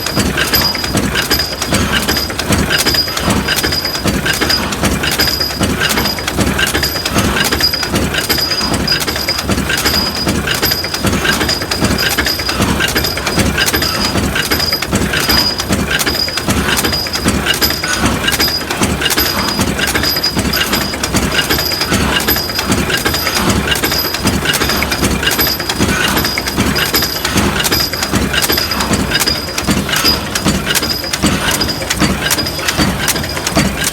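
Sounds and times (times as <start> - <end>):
pulsing high ring: 0.0 - 32.6
forging machinery clattering: 0.0 - 33.9.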